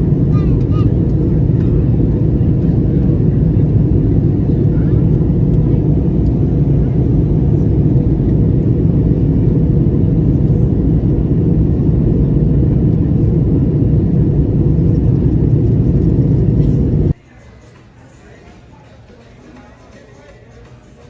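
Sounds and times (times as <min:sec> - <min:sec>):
faint engine whine: 0:00.0 - 0:17.2
jet engines rumbling in cabin: 0:00.0 - 0:17.2.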